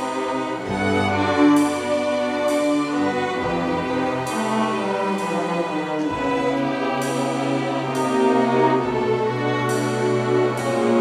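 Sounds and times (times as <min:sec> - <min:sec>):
string orchestra playing chords: 0:00.0 - 0:11.0.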